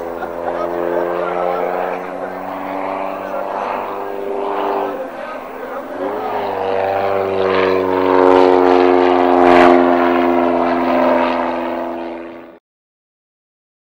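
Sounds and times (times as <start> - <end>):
propeller aircraft engine droning: 0.0 - 12.6.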